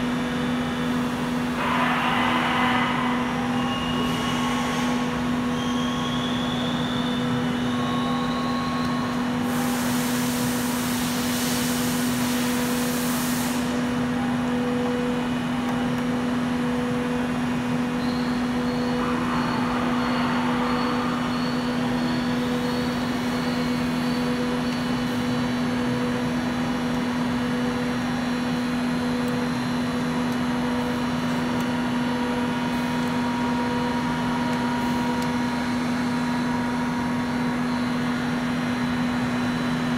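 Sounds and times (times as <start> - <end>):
low machine hum: 0.0 - 13.0, 13.6 - 39.9.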